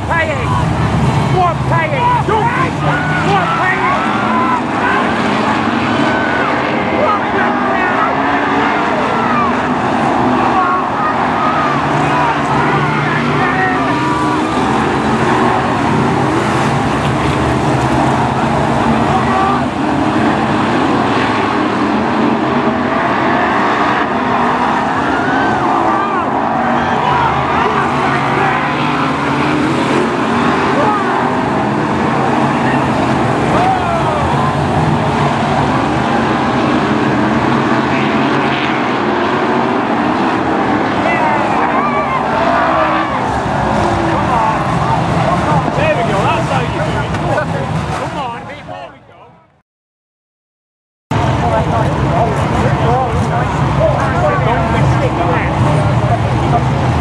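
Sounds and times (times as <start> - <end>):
stock car engines racing: 0.0 - 49.6, 51.1 - 57.0.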